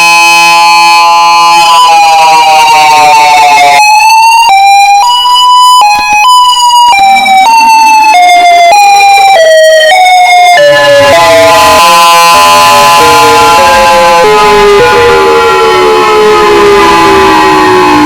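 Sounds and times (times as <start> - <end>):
warning siren jumping pitch: 0.0 - 18.0.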